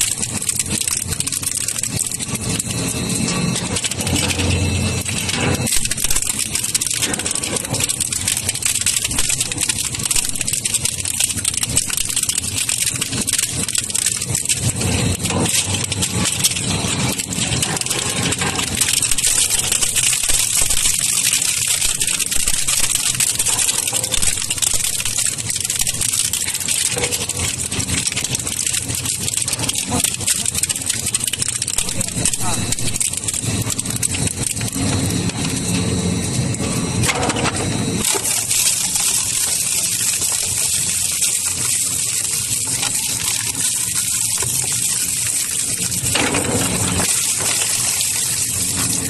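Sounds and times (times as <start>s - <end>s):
shredder machine running: 0.0s - 49.0s.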